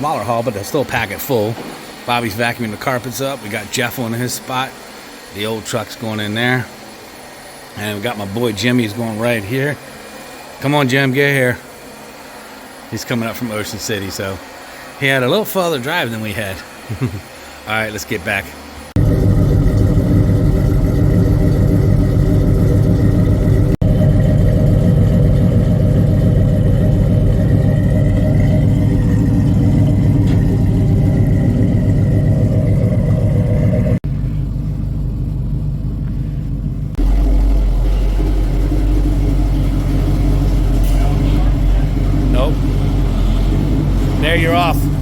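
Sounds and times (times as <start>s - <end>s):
truck engines running: 0.0s - 45.0s.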